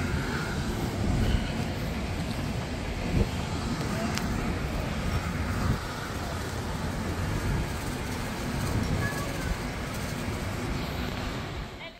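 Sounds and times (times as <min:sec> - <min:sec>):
faint voices: 0:00.0 - 0:11.9
low city rumble: 0:00.0 - 0:11.9.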